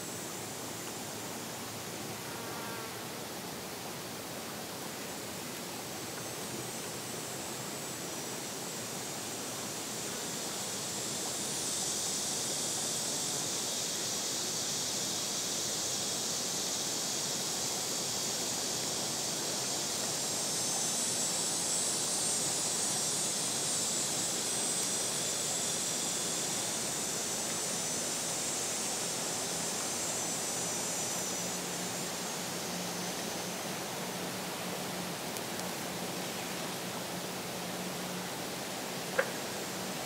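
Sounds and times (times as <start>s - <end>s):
cicadas buzzing: 0.0s - 40.0s.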